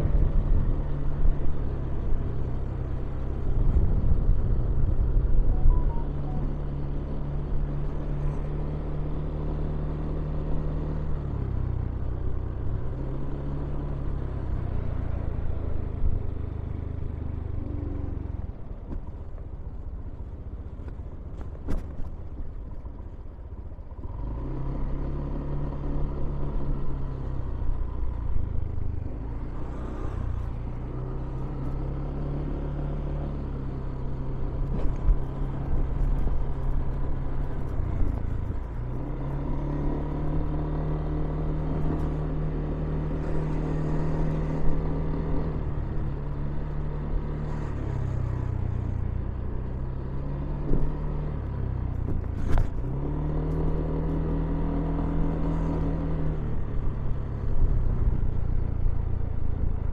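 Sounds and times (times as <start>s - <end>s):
traffic engine hum: 0.0s - 59.9s.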